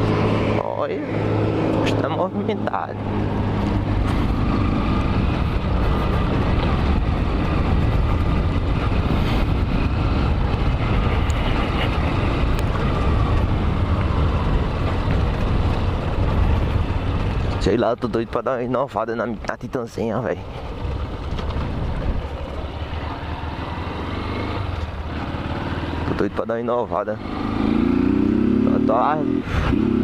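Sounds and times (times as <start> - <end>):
continuous rushing noise: 0.0 - 30.0
motorcycle engine running: 0.0 - 30.0.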